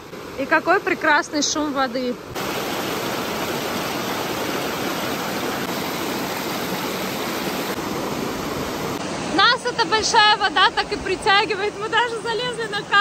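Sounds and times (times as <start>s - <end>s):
river rushing over waterfall: 0.0s - 13.0s.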